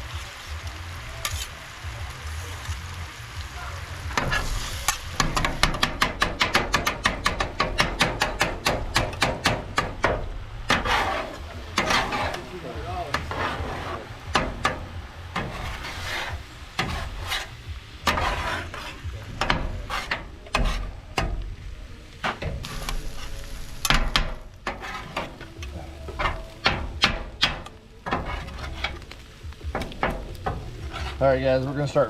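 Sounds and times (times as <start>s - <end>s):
food sizzling: 0.0s - 32.0s
metal spatulas scraping on griddle: 1.2s - 1.6s, 4.0s - 32.0s.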